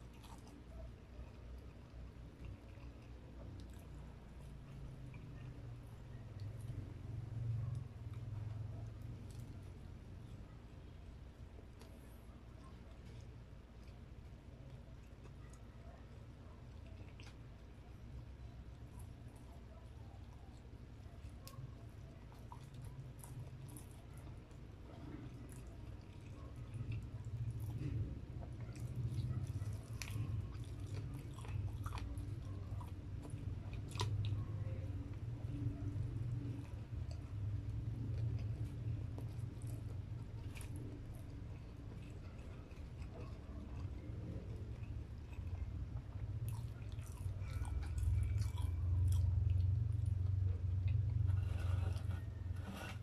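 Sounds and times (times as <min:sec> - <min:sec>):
chewing crispy chicken: 0:00.0 - 0:53.0.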